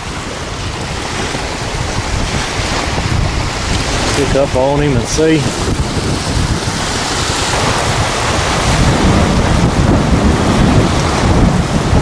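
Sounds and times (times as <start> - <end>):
gusty wind buffeting microphone: 0.0 - 12.0
small waves breaking on shore: 0.0 - 12.0.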